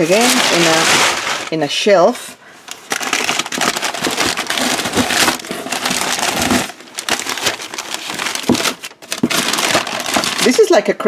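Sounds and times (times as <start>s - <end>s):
packing paper rustling: 0.0s - 10.8s.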